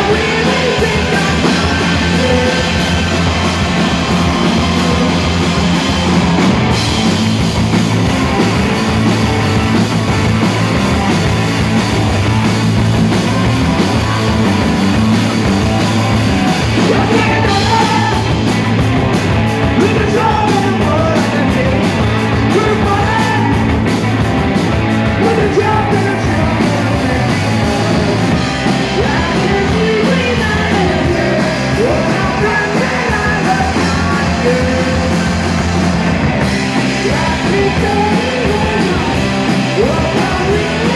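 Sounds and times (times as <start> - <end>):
bass guitar: 0.0 - 40.9
drums: 0.0 - 40.9
electric guitars: 0.0 - 40.9.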